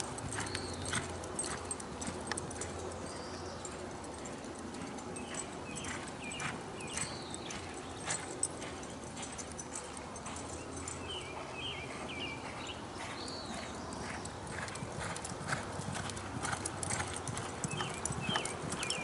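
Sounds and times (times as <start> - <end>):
horse hoofbeats on dirt: 0.0 - 19.0.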